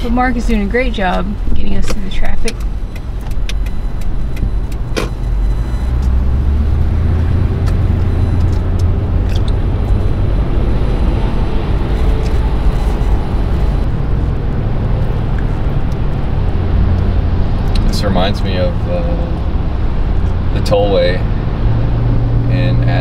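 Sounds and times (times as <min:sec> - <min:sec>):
road and engine rumble: 0:00.0 - 0:23.0.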